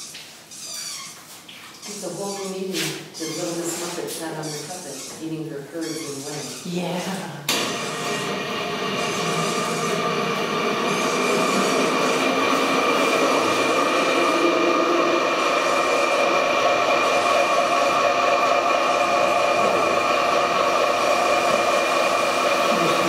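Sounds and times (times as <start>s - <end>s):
electric hoist motor humming: 1.9s - 23.0s.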